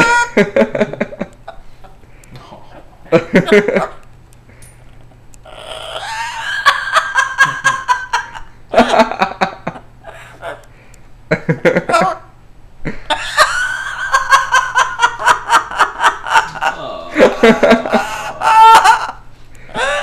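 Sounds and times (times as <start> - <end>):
parrot laughing: 0.0 - 1.8, 2.6 - 4.1, 5.4 - 10.7, 11.4 - 20.0.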